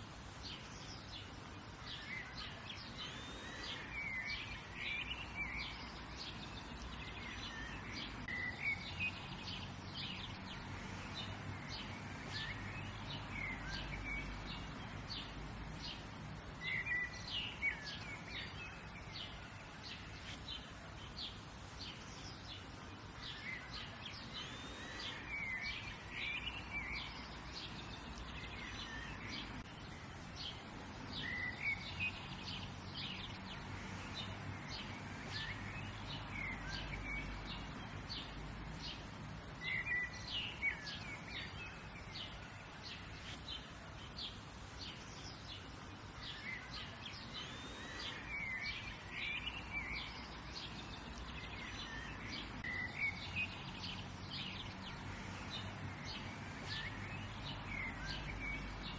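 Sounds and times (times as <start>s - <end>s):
faint background hiss: 0.0s - 58.9s
songbirds chirping and singing: 0.0s - 58.9s.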